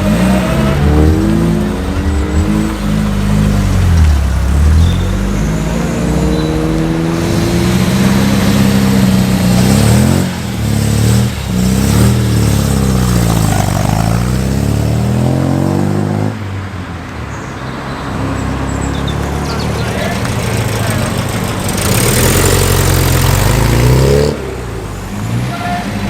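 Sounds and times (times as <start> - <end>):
car engine accelerating: 0.0 - 16.7, 18.0 - 26.0.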